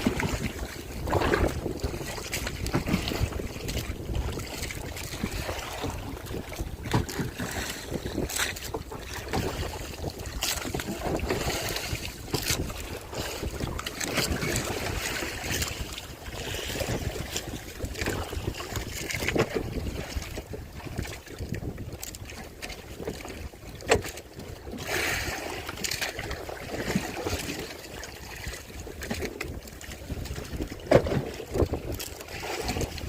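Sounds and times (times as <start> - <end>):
knocks and splashes: 0.0 - 33.0
water sloshing: 0.0 - 33.0
wind on microphone: 0.0 - 33.0.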